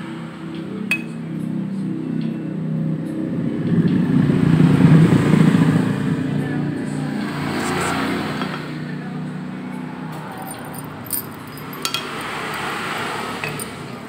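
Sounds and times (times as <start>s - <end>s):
motorcycle engine revving: 2.6s - 14.0s.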